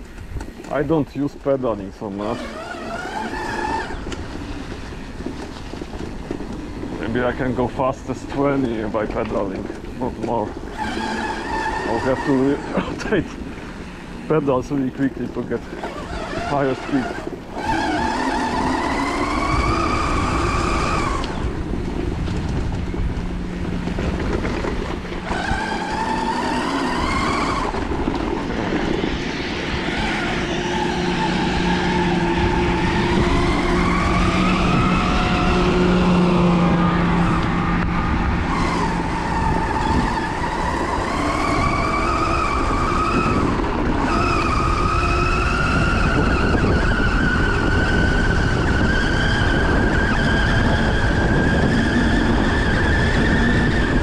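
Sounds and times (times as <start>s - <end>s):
wind: 0.0s - 54.0s
electric motor whining: 2.0s - 54.0s.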